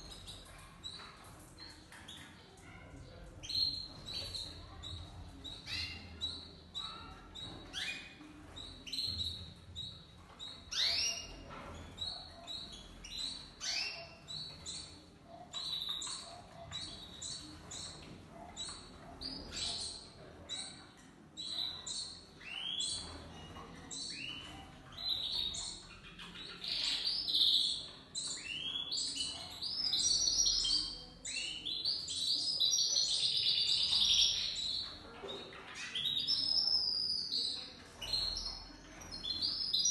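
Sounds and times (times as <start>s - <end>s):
canaries chirping: 0.0s - 39.9s
canary warbling song: 0.0s - 39.9s.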